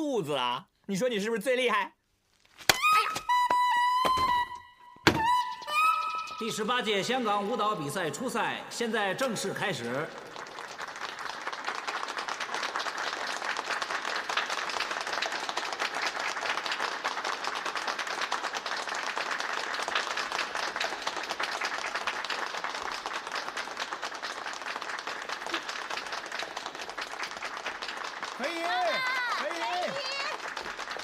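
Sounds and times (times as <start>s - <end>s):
audience applauding: 5.2s - 31.0s.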